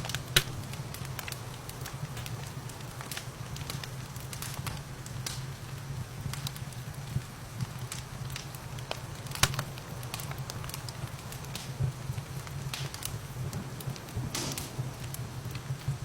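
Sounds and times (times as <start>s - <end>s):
low rumble and hiss: 0.0s - 16.0s
sharp pops from fire: 0.0s - 16.0s
wood fire crackling: 0.0s - 16.0s.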